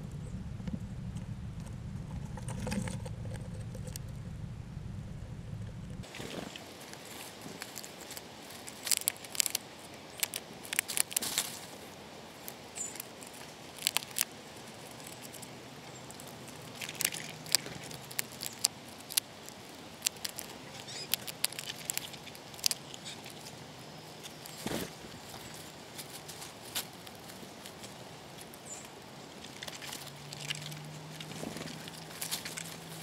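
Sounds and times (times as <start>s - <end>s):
faint outdoor hiss: 0.0s - 33.0s
rodent clicking and scratching: 2.0s - 4.2s, 5.9s - 23.6s, 24.2s - 33.0s.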